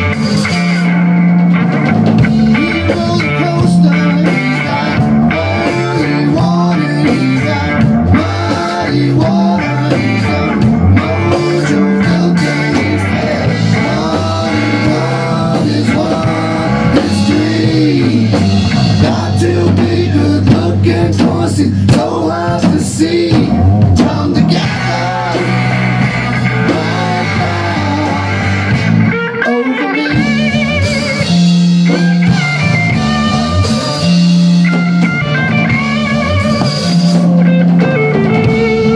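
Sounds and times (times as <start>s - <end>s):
drum kit: 0.0s - 38.9s
electric bass: 0.0s - 38.9s
electric guitar: 0.0s - 38.9s.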